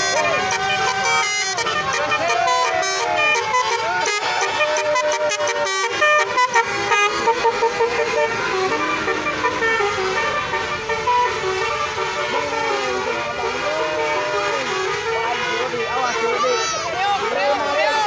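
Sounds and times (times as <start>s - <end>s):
musical air horns playing a melody: 0.0s - 18.0s.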